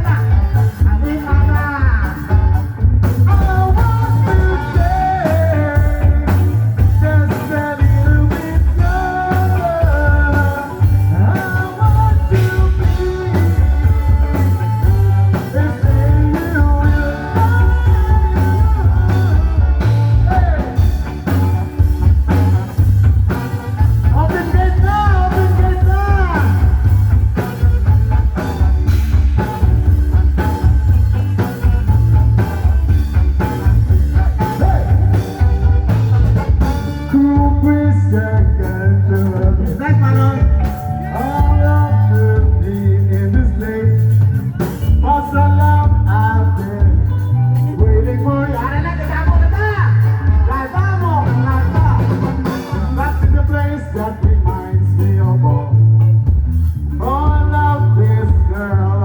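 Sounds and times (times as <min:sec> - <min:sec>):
rock song with singing: 0:00.0 - 0:59.0.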